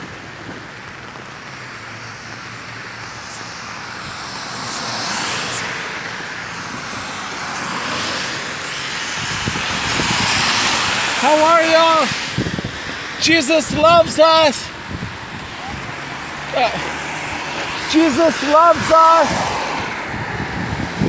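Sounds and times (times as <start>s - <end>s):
rain: 0.0s - 21.0s
tyres hissing on wet road: 0.0s - 21.0s.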